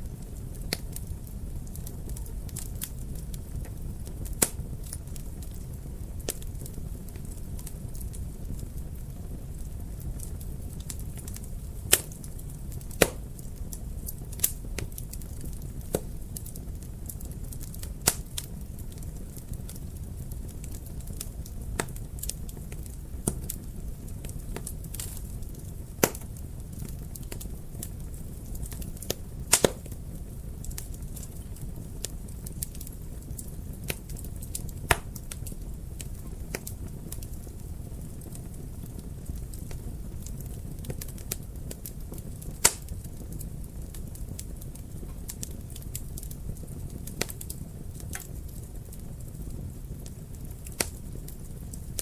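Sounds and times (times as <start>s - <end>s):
fire pops and snaps: 0.0s - 52.0s
wood fire crackling: 0.0s - 52.0s.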